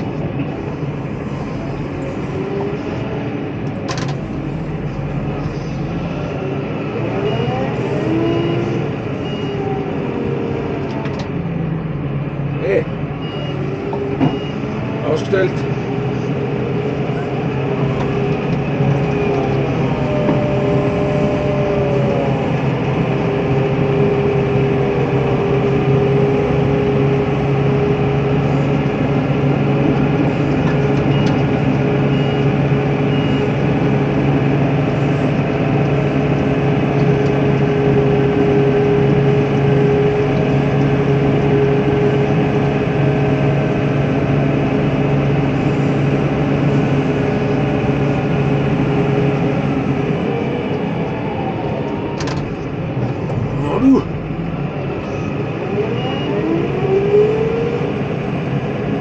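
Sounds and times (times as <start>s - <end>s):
tractor engine droning: 0.0s - 59.0s.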